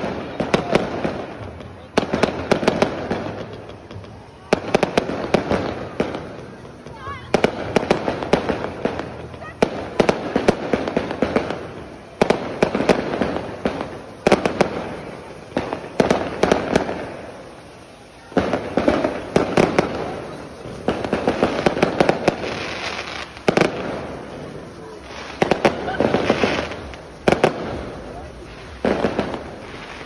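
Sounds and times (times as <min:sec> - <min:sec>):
firecrackers banging: 0:00.0 - 0:30.0
fireworks fountains rushing: 0:00.0 - 0:30.0.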